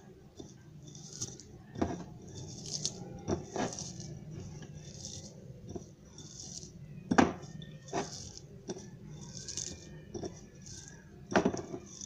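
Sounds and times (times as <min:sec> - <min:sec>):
hands squishing onions: 0:00.2 - 0:12.0.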